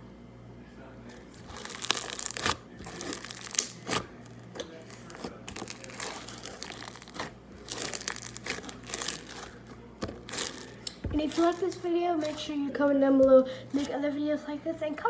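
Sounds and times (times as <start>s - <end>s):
slime crackling: 1.1s - 14.4s.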